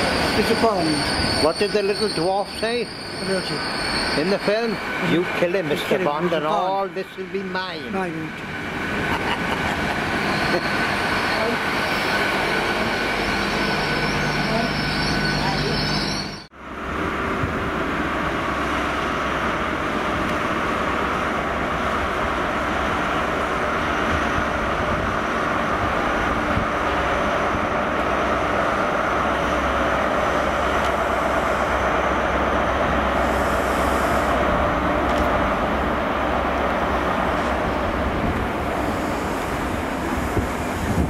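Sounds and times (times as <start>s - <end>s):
diesel train engine: 0.0s - 41.0s.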